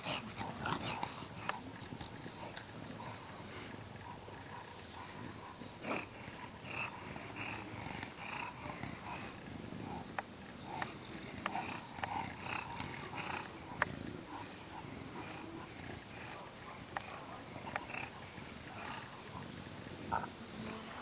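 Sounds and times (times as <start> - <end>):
puppies grunting: 0.0 - 21.0.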